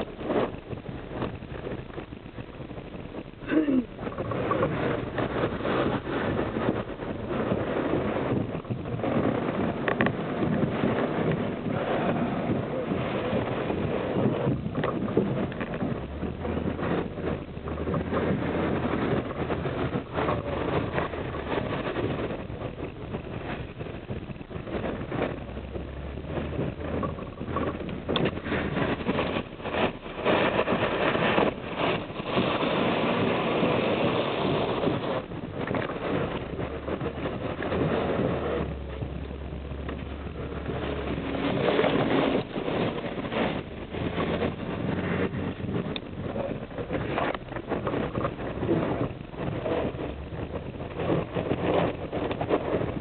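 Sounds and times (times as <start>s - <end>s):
gusty wind buffeting microphone: 0.0s - 53.0s
loud uneven rushing noise: 3.4s - 53.0s
vehicle running: 4.1s - 33.6s, 34.6s - 53.0s.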